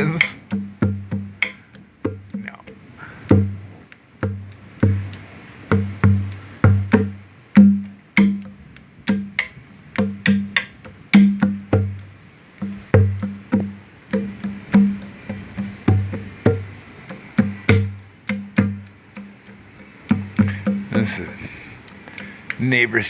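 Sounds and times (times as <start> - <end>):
conga drum played by hand: 0.0 - 21.6.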